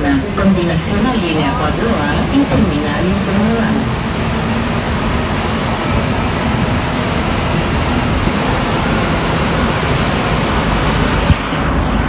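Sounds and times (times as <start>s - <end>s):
metro car rumbling: 0.0s - 12.0s.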